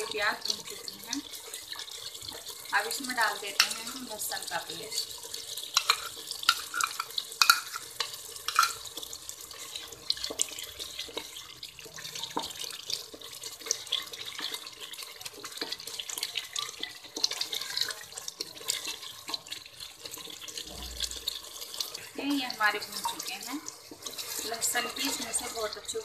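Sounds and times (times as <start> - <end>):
wooden spatula stirring clicks: 0.0 - 4.3, 4.9 - 26.0
paste sizzling in hot oil: 0.0 - 26.0.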